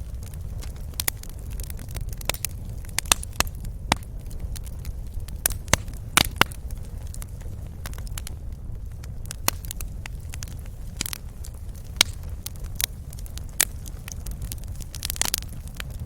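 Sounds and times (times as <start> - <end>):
low fire rumble: 0.0 - 16.0
sharp pops of fire: 0.0 - 16.0
wood fire crackling: 0.0 - 16.0.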